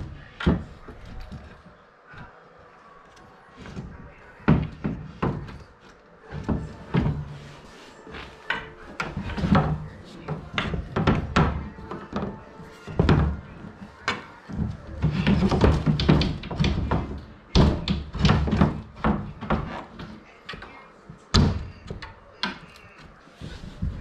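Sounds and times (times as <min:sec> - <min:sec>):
wooden crib parts knocking: 0:00.0 - 0:01.8, 0:03.6 - 0:24.0.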